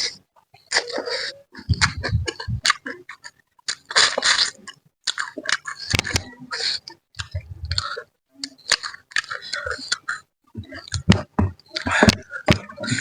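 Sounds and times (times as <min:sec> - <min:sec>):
chewing and wet mouth noises: 0:00.0 - 0:11.0.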